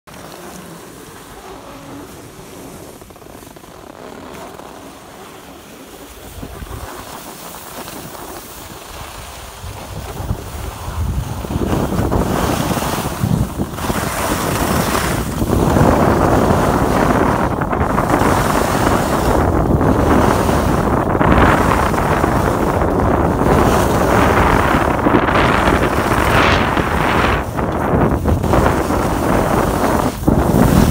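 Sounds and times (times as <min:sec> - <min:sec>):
skis sliding over snow: 0:00.1 - 0:30.9
wind buffeting microphone: 0:06.1 - 0:30.9.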